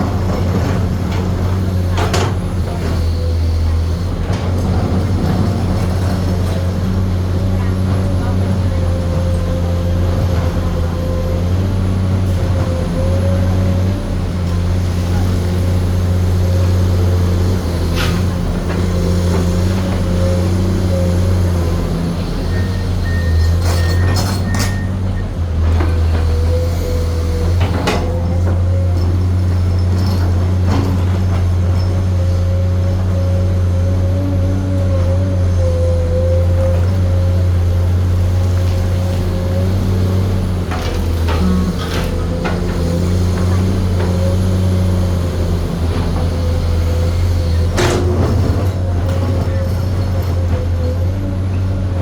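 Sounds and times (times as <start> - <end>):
excavator engine drone: 0.0 - 52.0.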